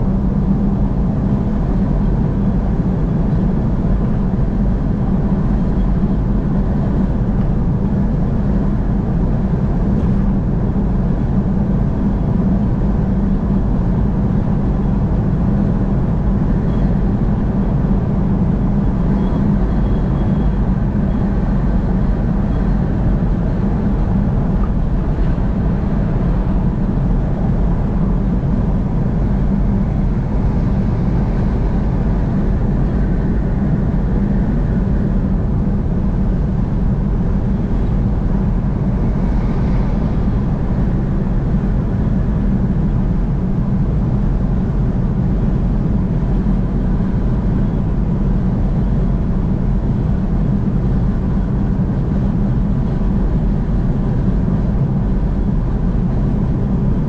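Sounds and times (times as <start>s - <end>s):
vehicle driving at speed: 0.0s - 57.0s.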